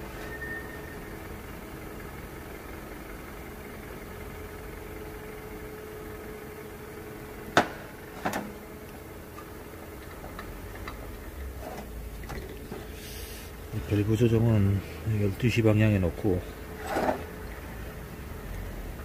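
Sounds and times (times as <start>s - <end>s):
workshop machinery hum: 0.0s - 19.0s.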